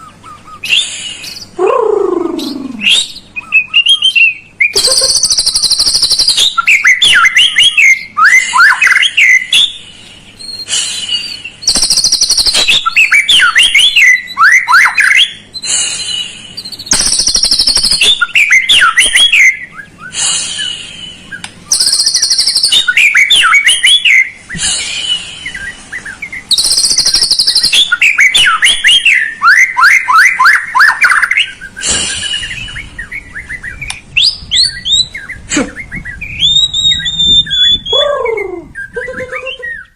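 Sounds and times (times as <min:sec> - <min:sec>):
songbird singing buzzy whistles: 0:00.0 - 0:01.6, 0:02.2 - 0:39.9.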